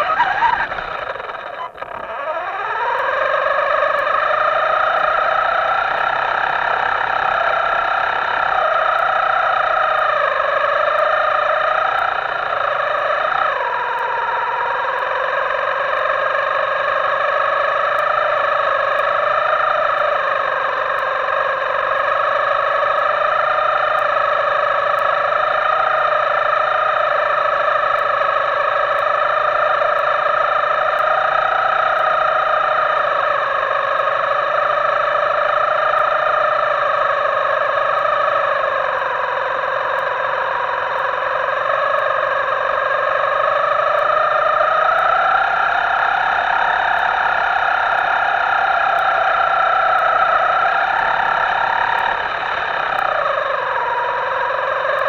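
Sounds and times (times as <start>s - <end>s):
small electric motor whining: 0.0s - 55.0s.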